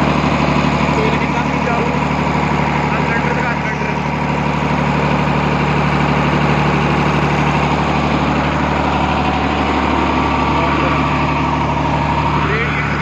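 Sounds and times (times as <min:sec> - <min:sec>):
truck engine driving generator: 0:00.0 - 0:13.0.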